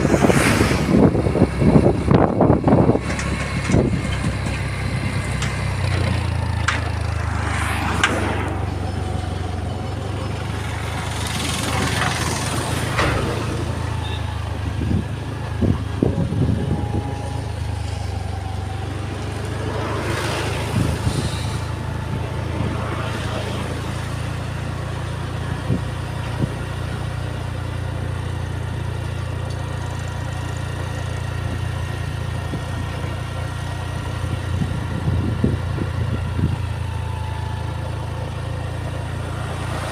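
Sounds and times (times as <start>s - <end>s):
vehicle engine droning: 0.0s - 39.9s
vehicles passing: 0.0s - 39.9s.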